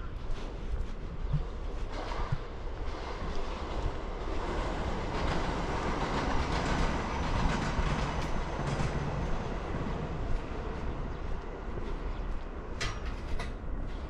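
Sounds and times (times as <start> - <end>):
train rolling on tracks: 0.0 - 14.0.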